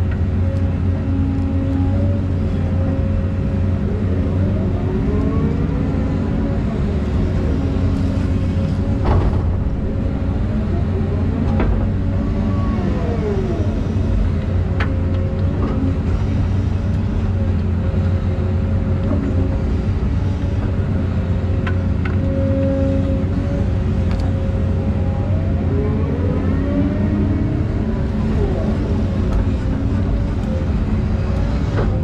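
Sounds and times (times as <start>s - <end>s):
excavator diesel engine drone: 0.0s - 32.0s.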